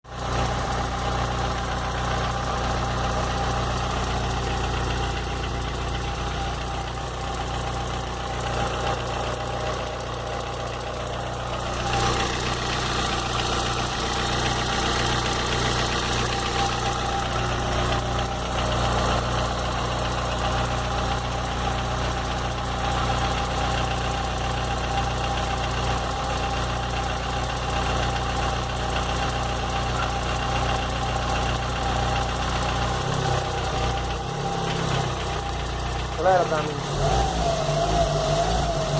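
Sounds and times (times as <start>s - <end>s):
car engine idling: 0.1s - 38.9s.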